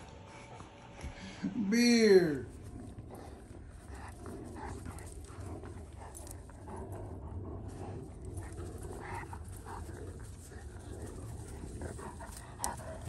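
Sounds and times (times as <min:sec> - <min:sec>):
dogs scuffling: 0:02.5 - 0:13.0.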